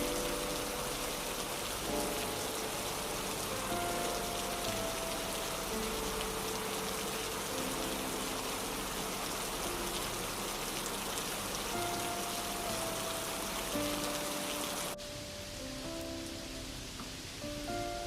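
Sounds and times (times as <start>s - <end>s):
rain-like hiss: 0.0s - 18.0s
soft held music notes: 0.0s - 18.0s.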